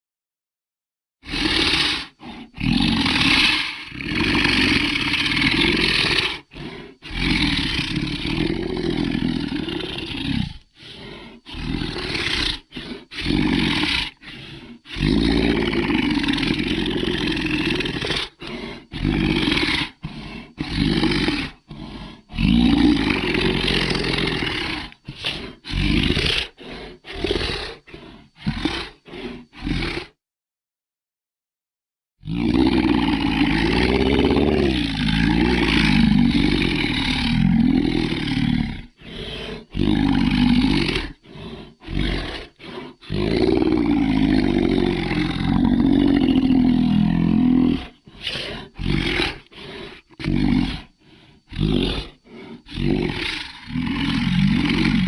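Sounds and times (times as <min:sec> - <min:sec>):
deep creature roars and growls: 0:01.2 - 0:30.2, 0:32.2 - 0:55.0.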